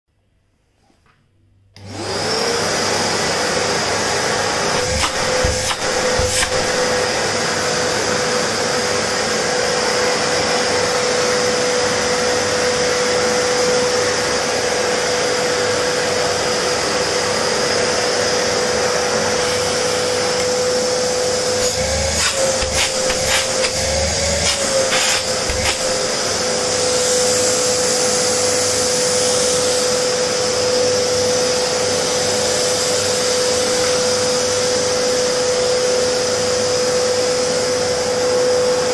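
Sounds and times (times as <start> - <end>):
vacuum cleaner running: 1.8 - 38.9.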